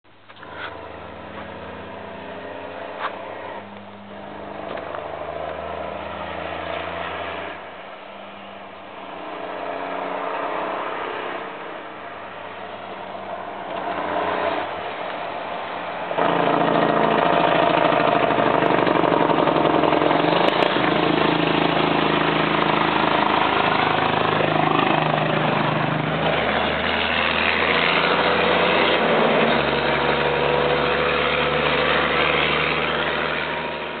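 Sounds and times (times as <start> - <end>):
diesel truck engine: 0.1 - 34.0.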